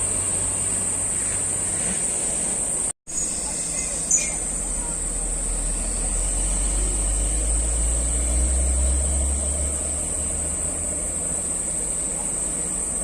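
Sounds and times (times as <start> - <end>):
ship engine rumble: 0.0 - 13.0.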